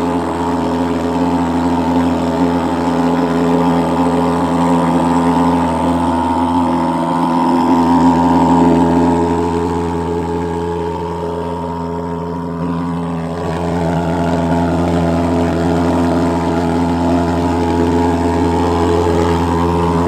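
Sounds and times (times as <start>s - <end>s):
fogging machine droning buzz: 0.0s - 20.0s.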